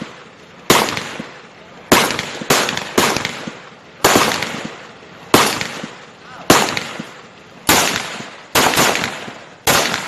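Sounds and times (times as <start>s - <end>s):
gunshots with echo: 0.0s - 10.0s.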